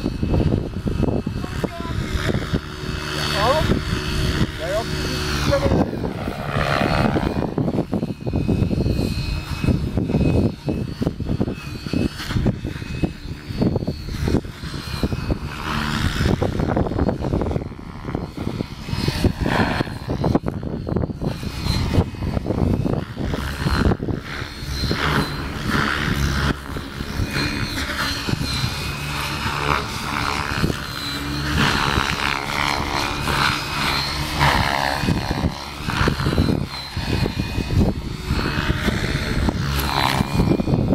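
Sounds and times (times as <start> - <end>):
rc helicopter motor whine: 0.0 - 40.9
wind buffeting microphone: 0.0 - 40.9.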